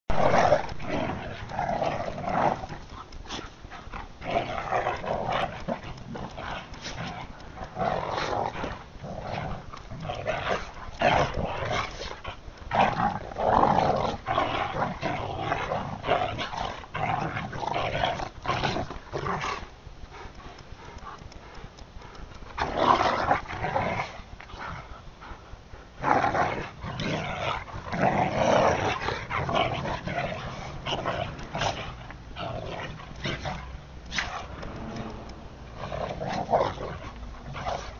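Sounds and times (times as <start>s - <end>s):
dogs growling and snarling: 0.1s - 37.9s.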